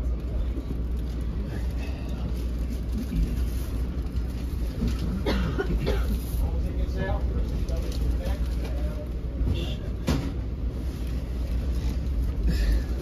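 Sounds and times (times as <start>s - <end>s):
faint passenger voices: 0.0s - 13.0s
train coach rumble: 0.0s - 13.0s.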